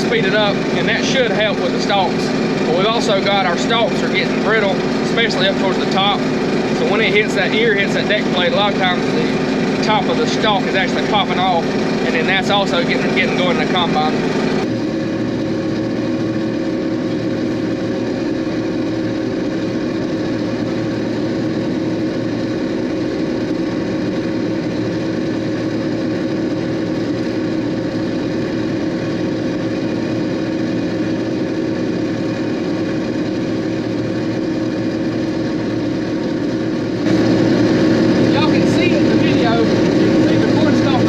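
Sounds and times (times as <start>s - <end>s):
combine harvester engine droning: 0.0s - 41.0s.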